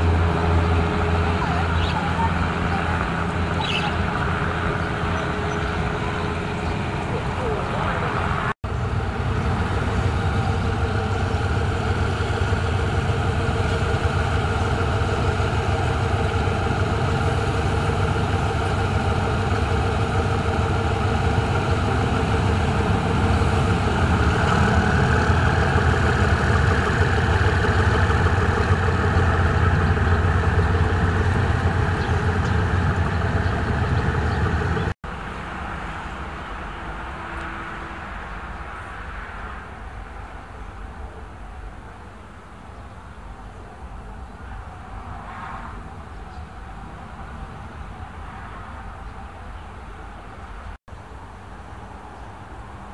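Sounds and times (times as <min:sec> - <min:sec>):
locomotive engine droning: 0:00.0 - 0:52.9.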